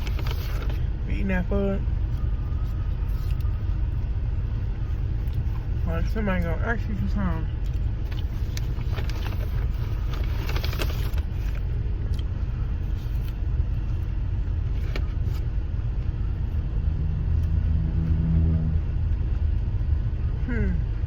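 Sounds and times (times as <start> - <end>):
car engine rumbling: 0.0 - 21.0
deep pitched hum: 0.0 - 21.0.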